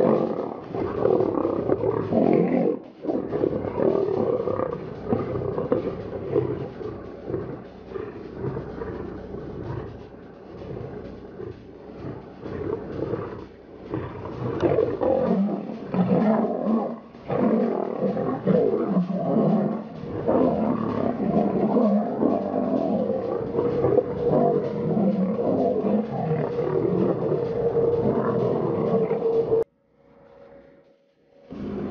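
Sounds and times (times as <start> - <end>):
lions growling and roaring: 0.0 - 29.7.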